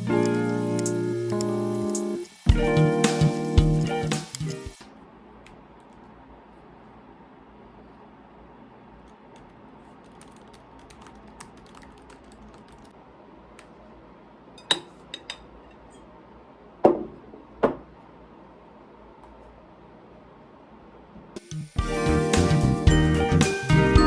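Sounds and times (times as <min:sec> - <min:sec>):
steady room hiss: 0:00.0 - 0:24.0.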